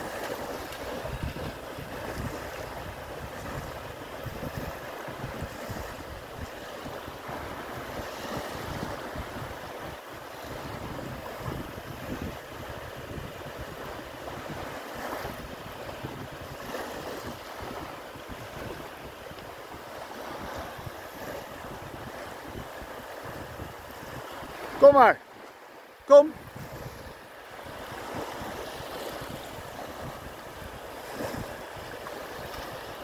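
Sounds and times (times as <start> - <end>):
wind buffeting microphone: 0.0 - 25.1, 26.3 - 33.0
small waves washing onto beach: 0.0 - 33.0.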